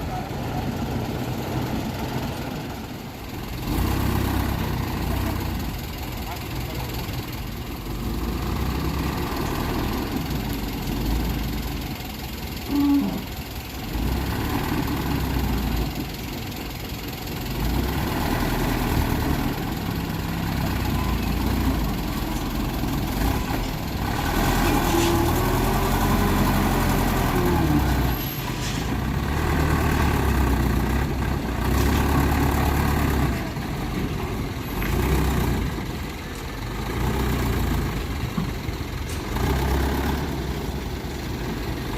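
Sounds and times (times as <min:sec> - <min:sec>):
dump truck engine running: 0:00.0 - 0:41.9.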